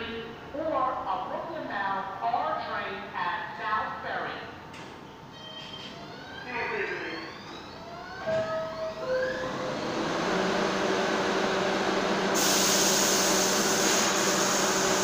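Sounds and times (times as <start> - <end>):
train electrical hum: 0.0 - 15.0.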